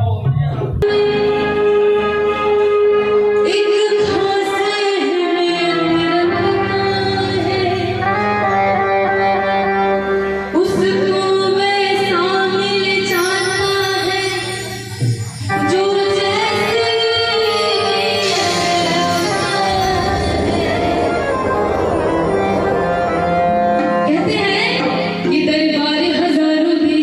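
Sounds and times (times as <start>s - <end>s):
devotional singing with instruments: 3.3s - 27.0s.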